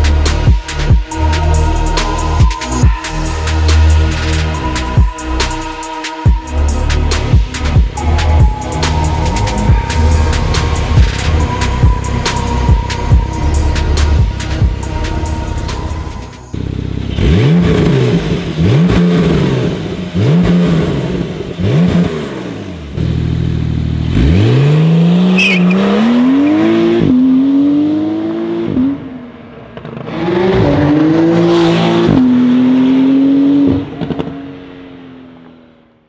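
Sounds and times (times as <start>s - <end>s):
sports car engine revving: 0.0s - 34.8s
car accelerating away: 6.5s - 35.6s.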